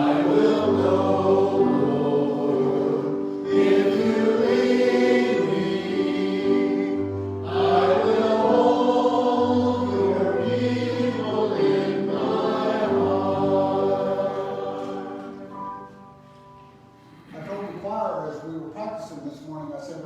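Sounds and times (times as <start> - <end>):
voices singing a hymn: 0.0 - 16.1.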